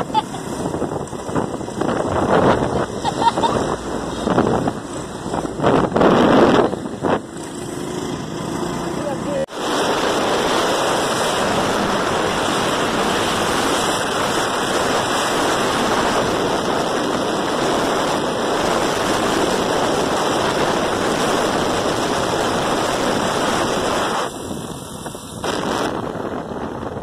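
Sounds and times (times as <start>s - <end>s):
wind noise on microphone: 0.0s - 27.0s.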